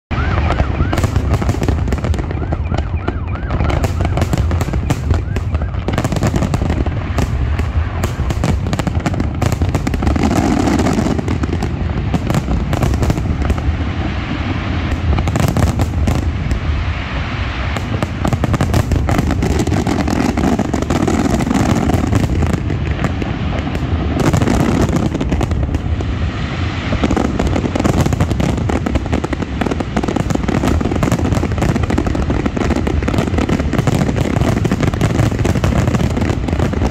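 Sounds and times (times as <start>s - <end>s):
fireworks bangs and crackling: 0.1s - 36.9s.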